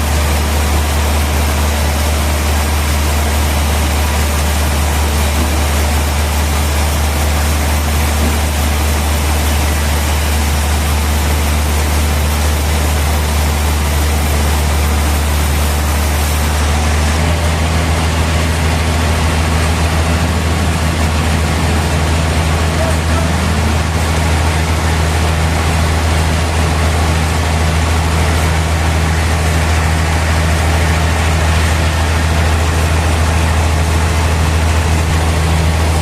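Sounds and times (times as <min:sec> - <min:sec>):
sawmill machinery humming: 0:00.0 - 0:36.0.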